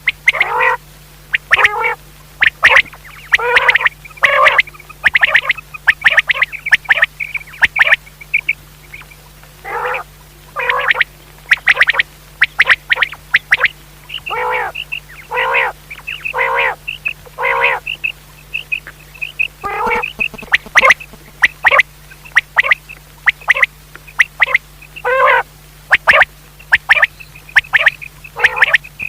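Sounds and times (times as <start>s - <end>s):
faint steady hum: 0.0s - 29.0s
quail calling: 0.0s - 29.0s.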